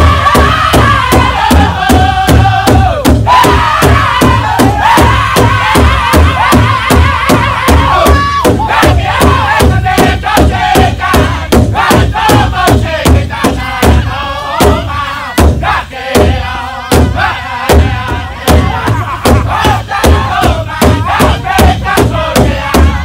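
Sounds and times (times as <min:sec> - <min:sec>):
bass drum beating: 0:00.0 - 0:23.0
men singing in unison: 0:00.0 - 0:23.0.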